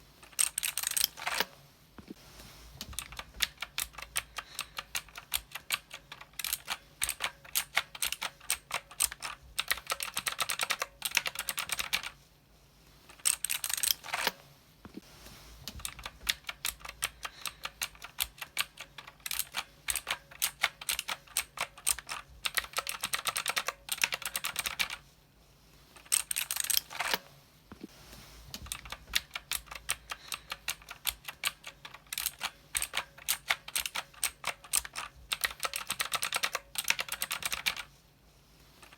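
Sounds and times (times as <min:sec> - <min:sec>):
mechanical keyboard typing: 0:00.2 - 0:01.5, 0:02.8 - 0:12.2, 0:13.2 - 0:14.4, 0:15.7 - 0:25.0, 0:26.0 - 0:27.2, 0:28.6 - 0:37.9.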